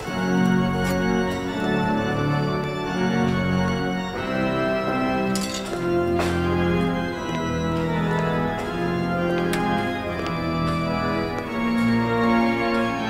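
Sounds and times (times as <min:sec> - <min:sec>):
organ playing held chords: 0:00.0 - 0:13.0.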